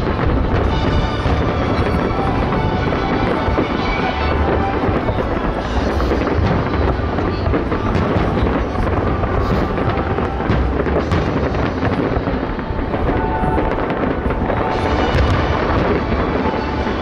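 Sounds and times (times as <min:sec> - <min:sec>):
fireworks booming and crackling: 0:00.0 - 0:17.0
sharp firework bangs: 0:00.0 - 0:17.0.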